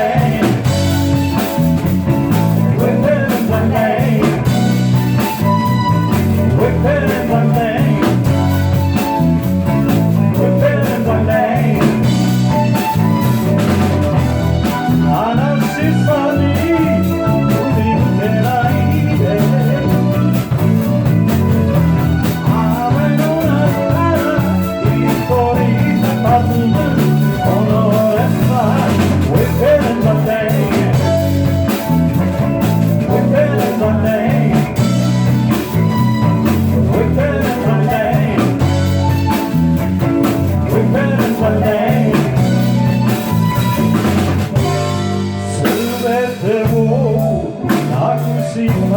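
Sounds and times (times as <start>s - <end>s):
guitar lead line: 0.0s - 48.9s
live band playing blues-rock: 0.0s - 48.9s.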